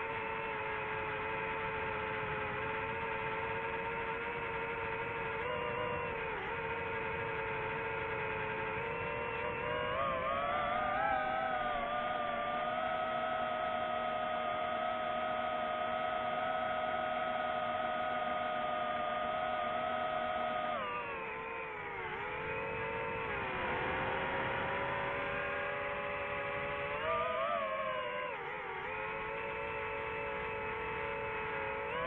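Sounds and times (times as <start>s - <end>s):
drone propellers whining: 0.0s - 32.0s.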